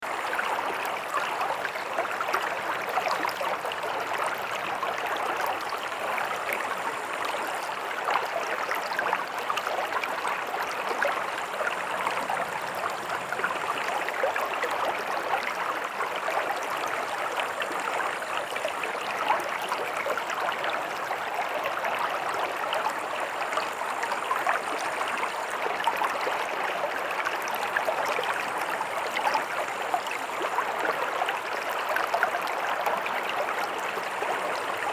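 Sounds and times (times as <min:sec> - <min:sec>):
stream gurgling over rocks: 0:00.0 - 0:34.9.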